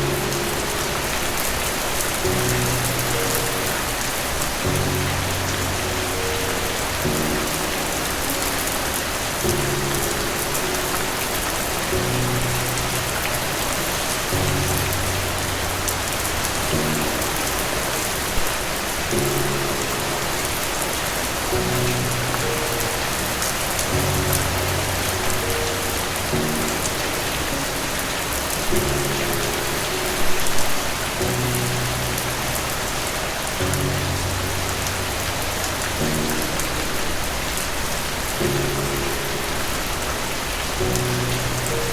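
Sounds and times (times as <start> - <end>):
rain falling on a surface: 0.0 - 41.9
soft music with low chords: 0.0 - 41.9.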